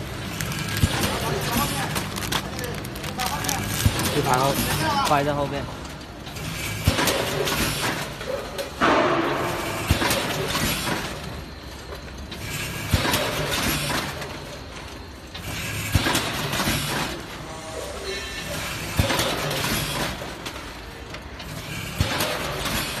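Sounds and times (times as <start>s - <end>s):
packing machine hum: 0.0s - 23.0s
machine clacking: 0.3s - 17.4s, 18.6s - 23.0s.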